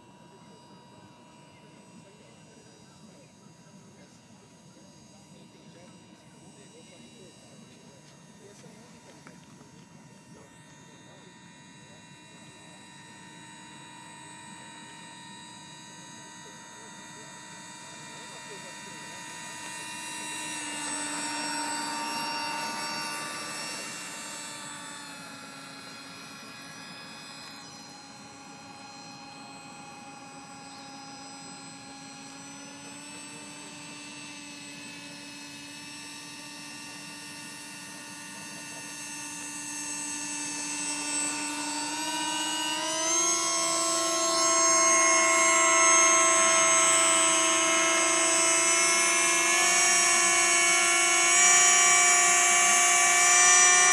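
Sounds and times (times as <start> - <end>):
electric fan motors whining: 0.0 - 53.9.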